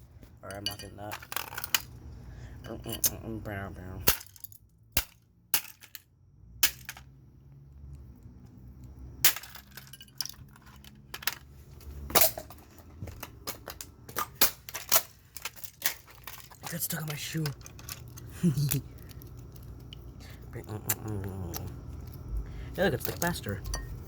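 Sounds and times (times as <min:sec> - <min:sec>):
loose parts scraping and rattling: 0:00.0 - 0:07.1, 0:09.2 - 0:24.0.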